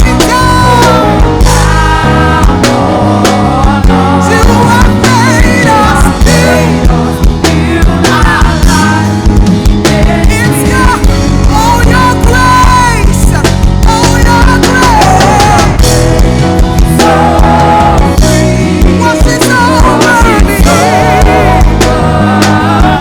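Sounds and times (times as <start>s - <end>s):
drum kit: 0.0s - 23.0s
worship band playing: 0.0s - 23.0s.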